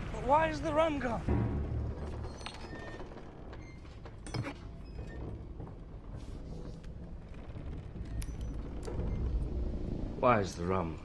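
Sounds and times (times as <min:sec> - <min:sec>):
low rumble of room tone: 0:01.2 - 0:11.0.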